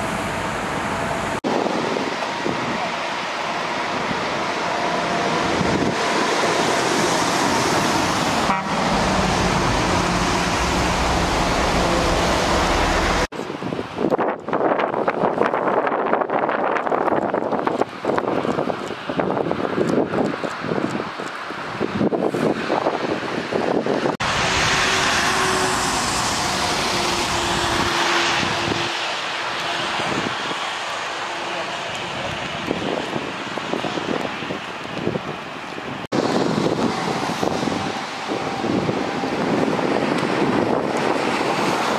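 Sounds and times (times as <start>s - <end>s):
tyres hissing on wet asphalt: 0.0s - 13.3s, 15.8s - 41.9s
gusty wind: 0.0s - 41.9s
steady rushing noise: 0.0s - 41.9s.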